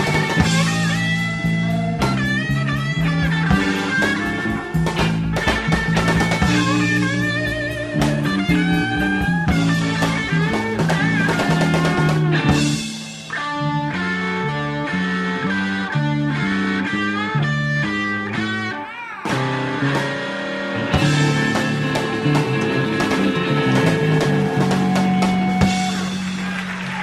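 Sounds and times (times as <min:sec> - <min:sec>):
drum kit: 0:00.0 - 0:17.6, 0:18.8 - 0:27.0
bass line: 0:00.0 - 0:27.0
electric guitar with bent notes: 0:00.0 - 0:27.0.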